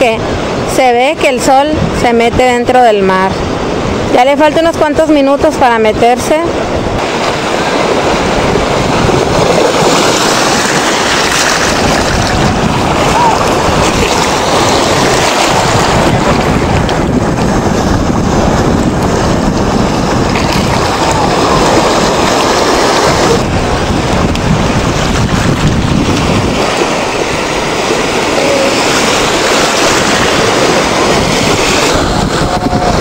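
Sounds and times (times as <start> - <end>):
sea surf washing: 0.0 - 33.0
wind buffeting microphone: 0.0 - 33.0.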